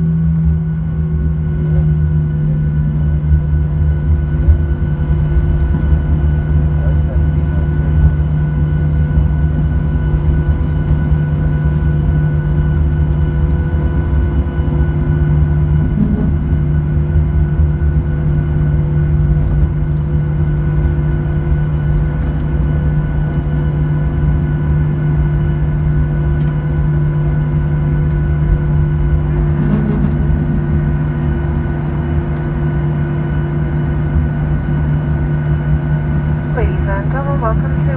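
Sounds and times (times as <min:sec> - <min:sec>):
jet engines rumbling: 0:00.0 - 0:37.9
whining engine tones: 0:00.0 - 0:37.9.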